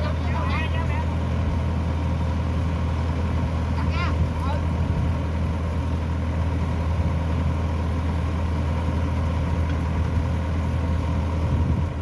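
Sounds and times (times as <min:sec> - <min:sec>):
combine harvester engine droning: 0:00.0 - 0:12.0.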